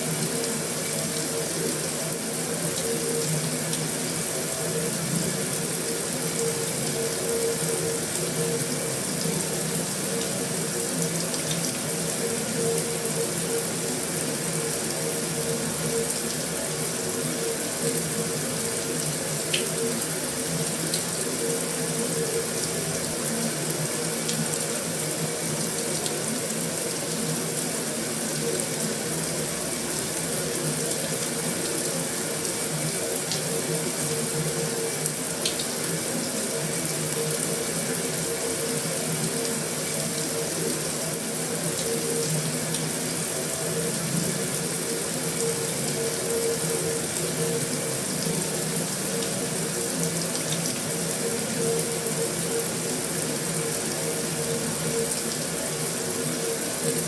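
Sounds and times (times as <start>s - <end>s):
heavy rain on a metal roof: 0.0s - 57.0s.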